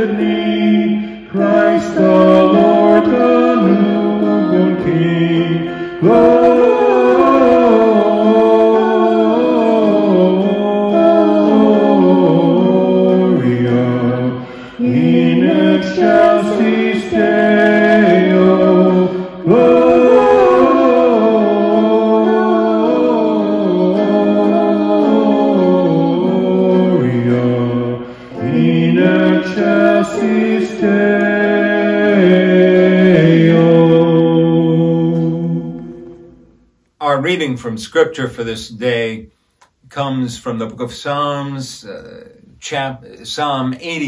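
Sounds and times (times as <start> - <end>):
electric guitar: 0.0 - 36.4
man and woman singing duet: 0.0 - 36.4.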